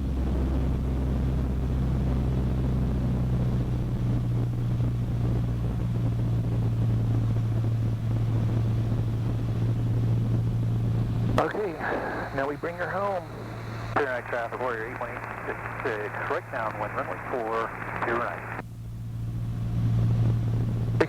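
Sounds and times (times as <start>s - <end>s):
aircraft engine and propeller drone: 0.0s - 21.0s.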